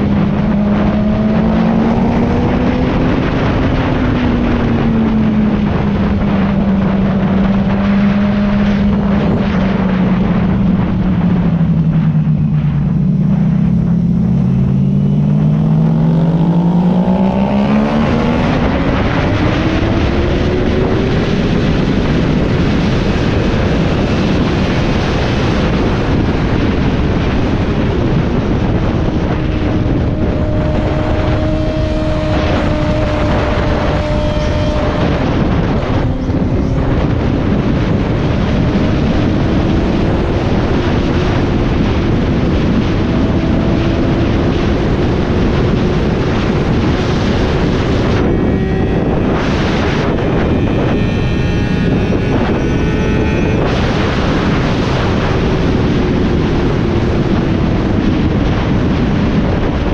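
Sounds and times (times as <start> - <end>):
motorcycle engine droning: 0.0 - 59.9
wind rush on microphone: 0.0 - 59.9.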